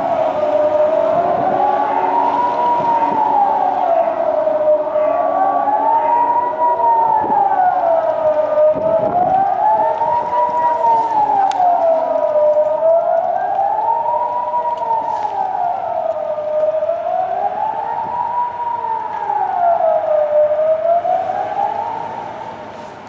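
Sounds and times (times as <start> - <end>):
distant wailing siren: 0.0 - 23.0.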